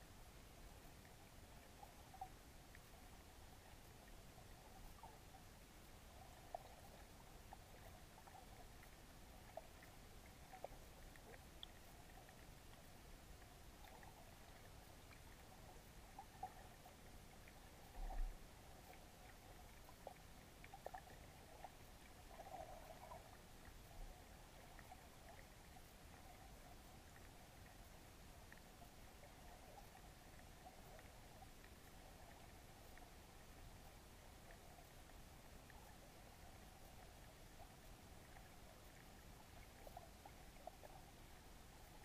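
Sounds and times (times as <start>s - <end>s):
small underwater clicks: 0.0s - 42.0s
underwater ambience: 0.0s - 42.0s.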